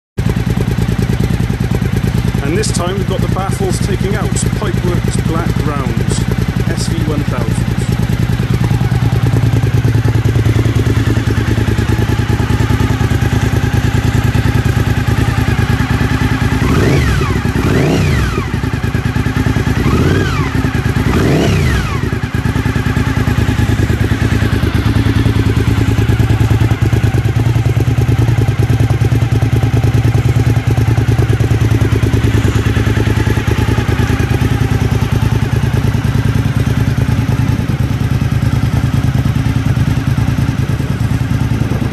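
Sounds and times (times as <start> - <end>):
motorcycle engine idling and revving: 0.2 - 41.9.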